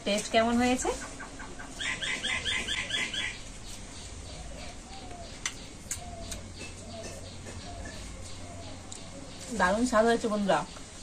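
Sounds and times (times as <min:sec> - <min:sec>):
bird chirping: 0:00.9 - 0:11.0.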